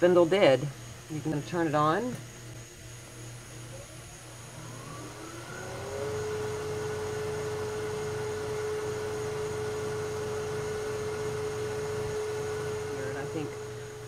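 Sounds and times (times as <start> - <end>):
wood lathe motor whine: 0.0 - 14.0.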